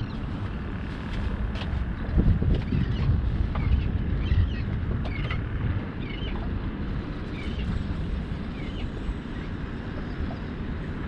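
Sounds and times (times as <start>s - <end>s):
water lapping around boat: 0.0s - 11.0s
wind buffeting microphone: 0.0s - 11.0s.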